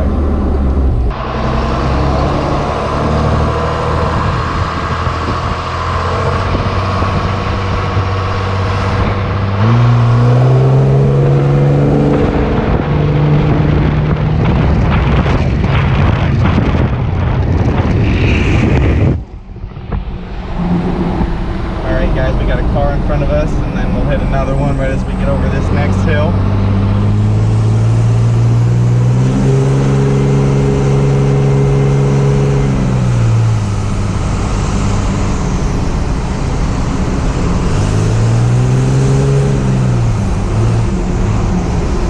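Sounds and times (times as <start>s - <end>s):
diesel truck engine driving: 0.0s - 42.0s.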